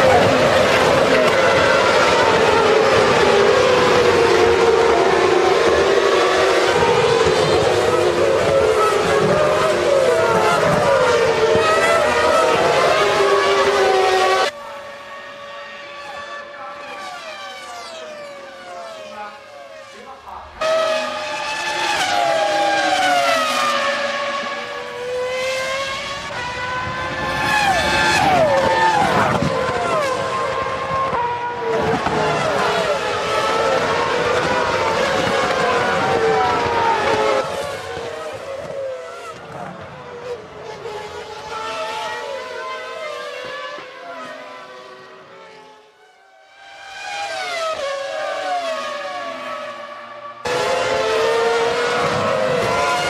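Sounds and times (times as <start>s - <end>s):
racing car engines at high revs: 0.0s - 53.0s.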